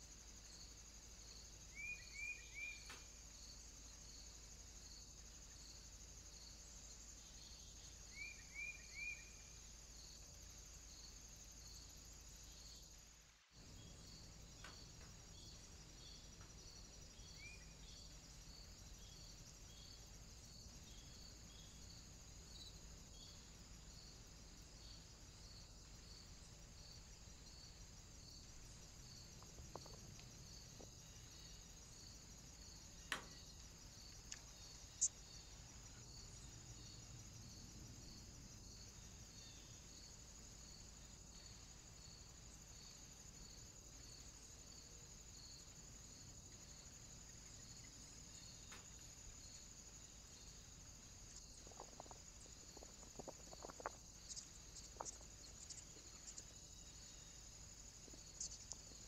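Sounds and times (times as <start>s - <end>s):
insects chirring: 0.0s - 59.0s
low hiss: 0.0s - 59.0s.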